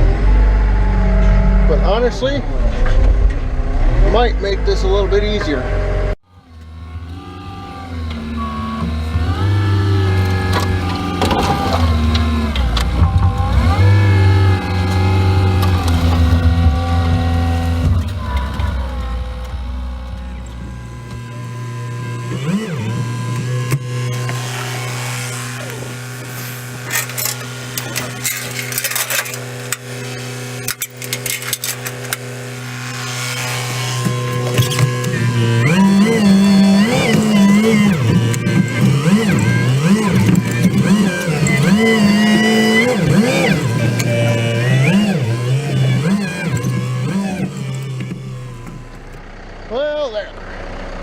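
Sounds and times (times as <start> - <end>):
diesel engine revving under load: 0.0 - 51.0.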